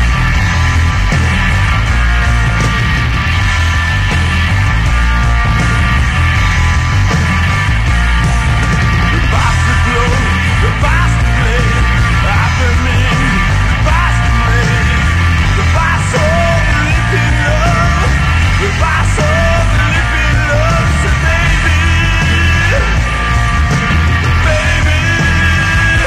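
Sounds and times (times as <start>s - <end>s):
punk rock band playing: 0.0s - 26.0s.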